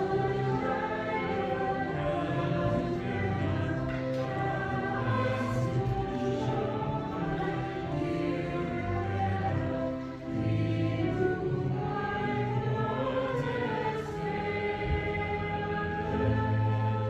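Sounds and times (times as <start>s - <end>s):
choir singing: 0.0s - 17.0s
sustained low accompaniment: 0.0s - 17.0s.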